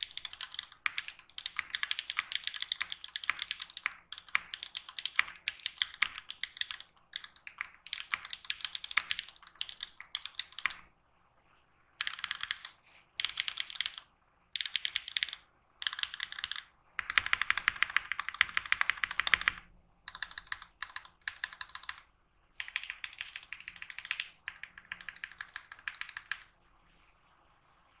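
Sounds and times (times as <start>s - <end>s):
mechanical keyboard typing: 0.0s - 10.9s, 12.0s - 26.6s.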